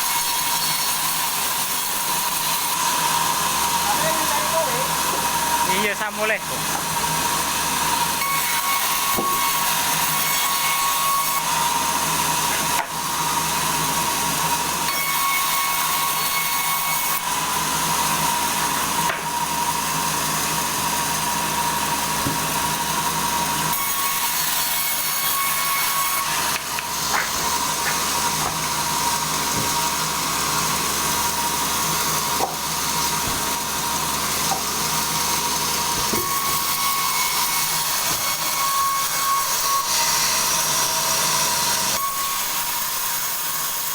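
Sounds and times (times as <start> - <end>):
steady saw whine: 0.0 - 43.8
sawmill blade cutting log: 0.0 - 43.9.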